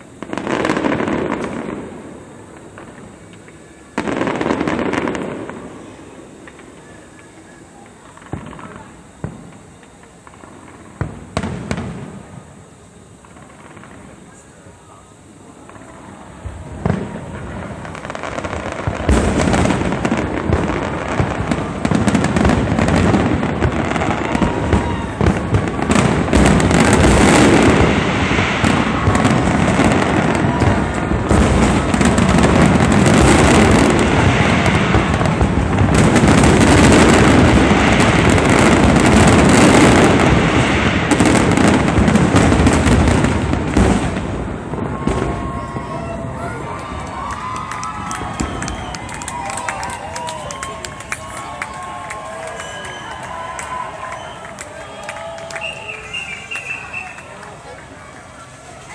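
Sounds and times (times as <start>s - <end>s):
fireworks crackling and booming: 0.0s - 58.9s.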